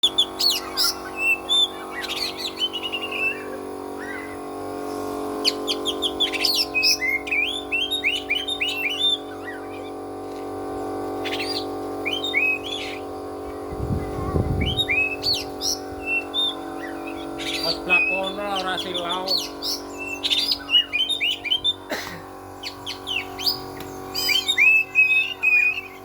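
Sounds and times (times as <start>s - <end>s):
magpie-robin singing: 0.0s - 10.0s, 11.2s - 21.9s, 22.5s - 26.0s
steady hum: 0.0s - 26.0s.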